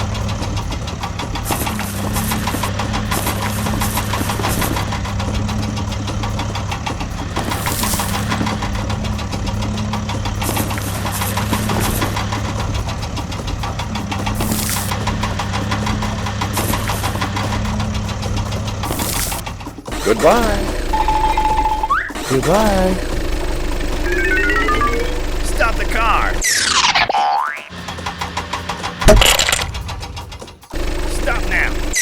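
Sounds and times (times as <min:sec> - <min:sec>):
construction vehicle engine rattling: 0:00.0 - 0:26.6, 0:27.4 - 0:32.0.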